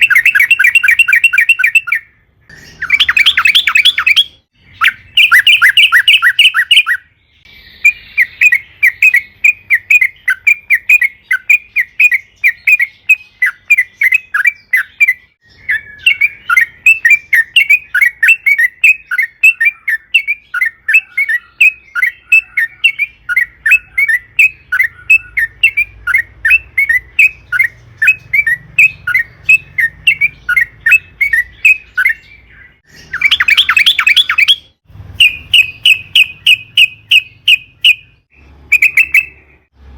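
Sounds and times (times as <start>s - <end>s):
bird song bubbling notes: 0.0s - 39.7s.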